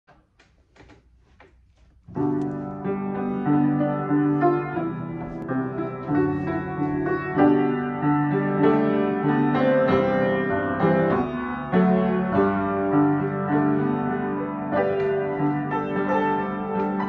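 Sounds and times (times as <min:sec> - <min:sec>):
grand piano playing: 0:02.0 - 0:17.0.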